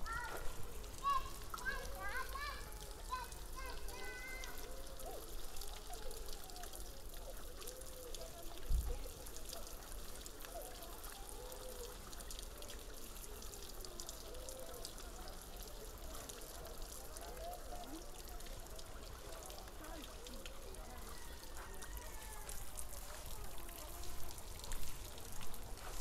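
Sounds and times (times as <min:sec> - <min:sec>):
fountain water splashing: 0:00.0 - 0:26.0.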